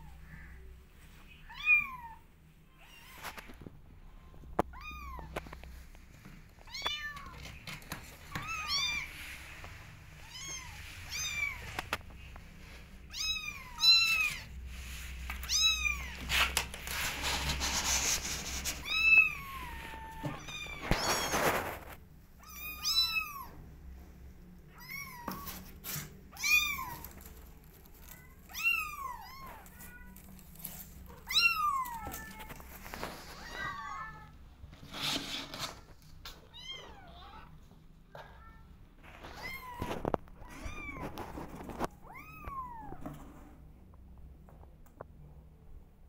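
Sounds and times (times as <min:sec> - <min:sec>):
rustling: 0:02.9 - 0:23.5, 0:24.8 - 0:36.7, 0:39.0 - 0:43.7.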